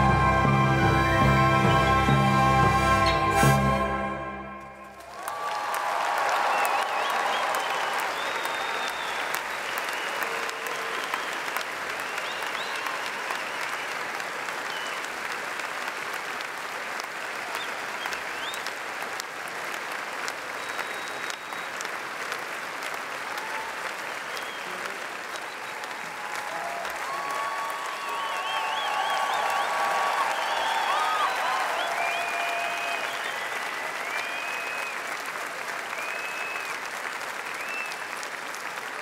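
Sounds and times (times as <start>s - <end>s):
audience applauding: 2.8s - 39.0s.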